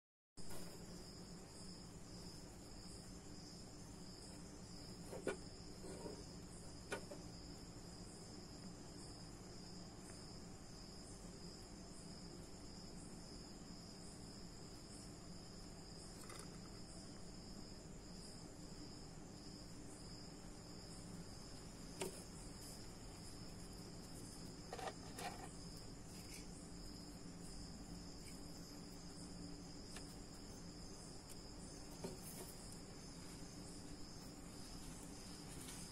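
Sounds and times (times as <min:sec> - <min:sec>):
crickets chirping: 0:00.4 - 0:35.9.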